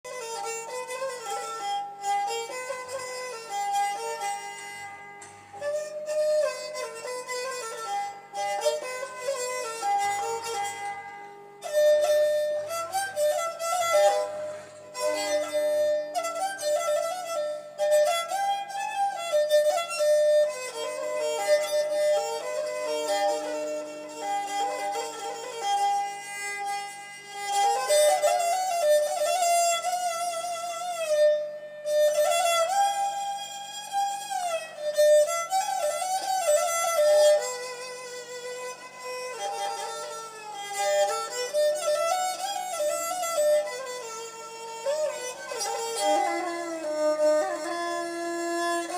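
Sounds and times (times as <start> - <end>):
bowed fiddle melody: 0.0 - 48.9.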